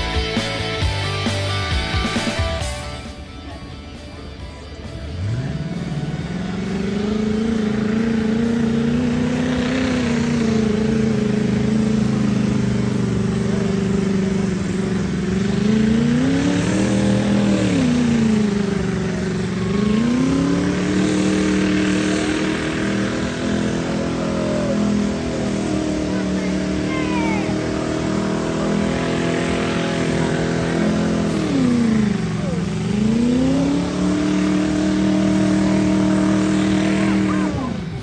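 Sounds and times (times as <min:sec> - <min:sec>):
vehicle engine revving: 0:00.0 - 0:38.0.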